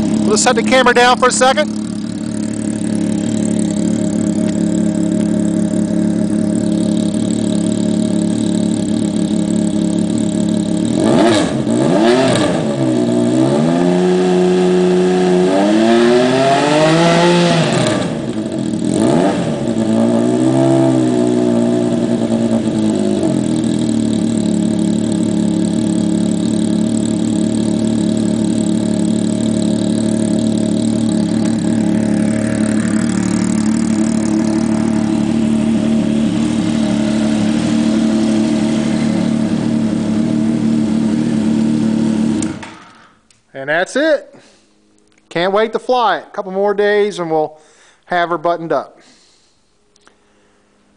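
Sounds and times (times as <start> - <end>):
engine revving and idling: 0.0 - 43.3.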